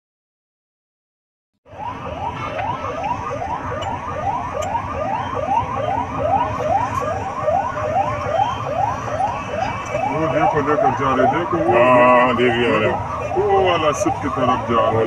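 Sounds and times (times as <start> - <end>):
emergency siren yelping: 1.6 - 15.0.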